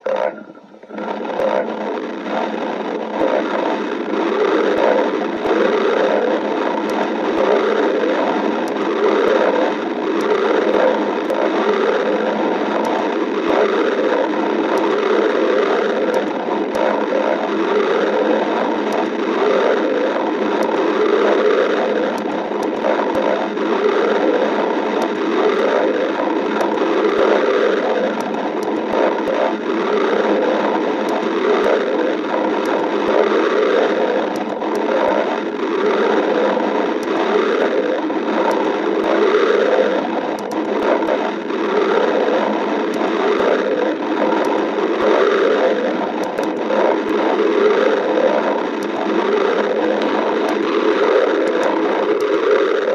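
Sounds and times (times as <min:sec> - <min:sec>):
faint clicks: 0:00.0 - 0:52.9
stomach growling: 0:00.0 - 0:52.9.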